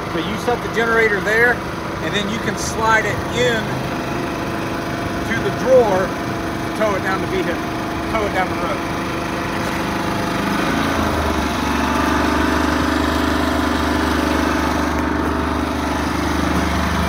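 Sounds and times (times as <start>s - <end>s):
generator humming: 0.0s - 17.0s.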